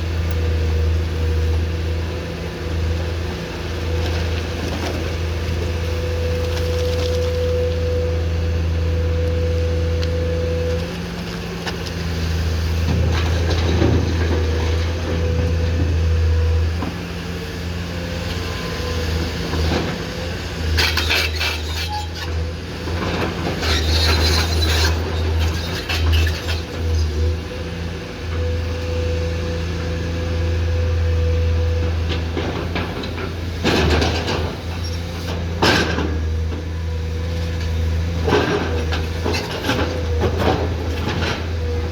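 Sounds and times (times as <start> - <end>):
excavator diesel engine droning: 0.0 - 41.9.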